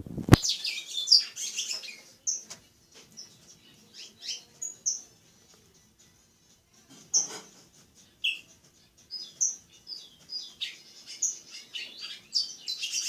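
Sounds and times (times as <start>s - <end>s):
songbird chirping and singing: 0.3s - 13.0s.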